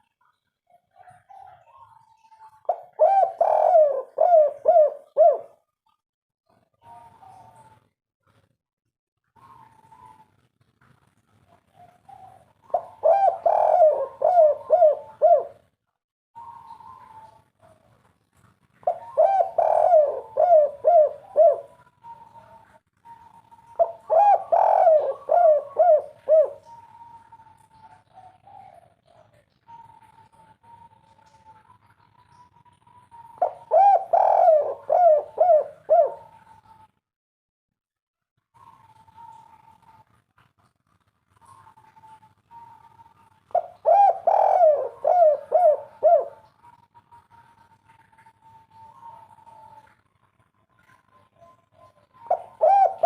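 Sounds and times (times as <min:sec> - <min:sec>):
dove cooing: 0:00.7 - 0:05.7, 0:06.7 - 0:07.8, 0:09.4 - 0:10.4, 0:11.5 - 0:15.7, 0:16.4 - 0:18.1, 0:18.8 - 0:36.9, 0:38.6 - 0:40.2, 0:41.4 - 0:53.0.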